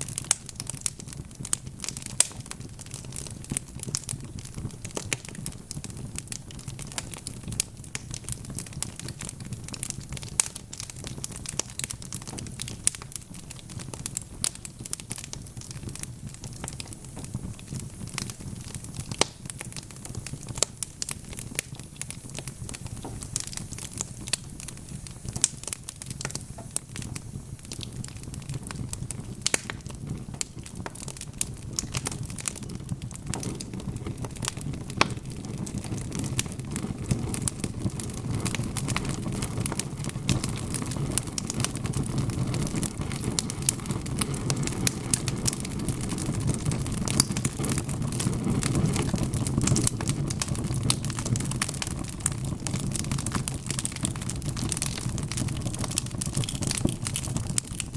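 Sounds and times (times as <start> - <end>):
logs crackling and popping: 0.0 - 57.9
low sound of flames: 0.0 - 57.9.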